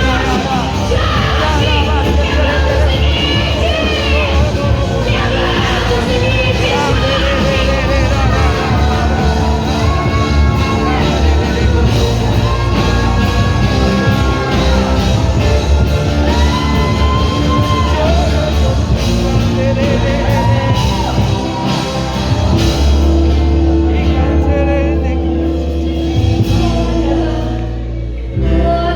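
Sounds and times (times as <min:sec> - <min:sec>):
drums: 0:00.0 - 0:28.9
worship band playing: 0:00.0 - 0:28.9.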